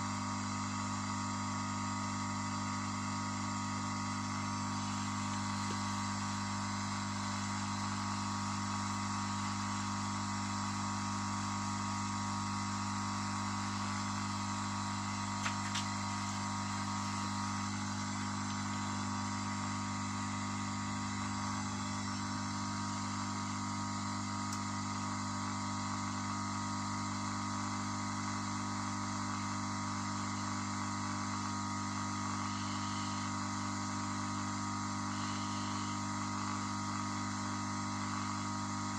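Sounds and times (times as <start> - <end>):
electrical mains hum: 0.0 - 38.9
high steady whine: 0.0 - 38.9.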